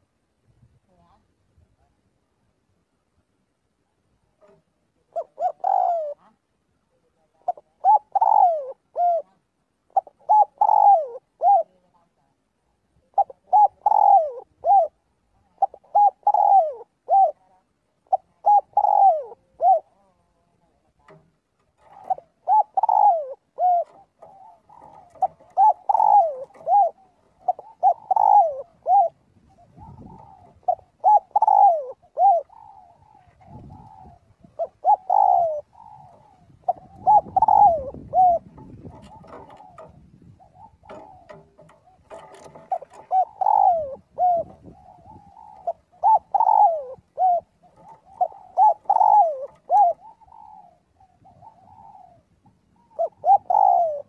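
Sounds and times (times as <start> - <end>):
doves cooing: 4.3 - 12.2, 12.8 - 54.0.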